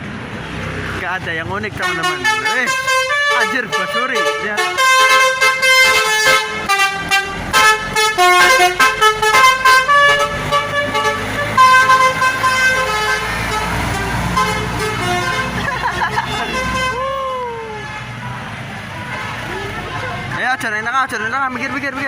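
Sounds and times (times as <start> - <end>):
bus engine running: 0.0 - 22.0
bus horn playing a tune: 1.8 - 18.3, 19.0 - 20.4.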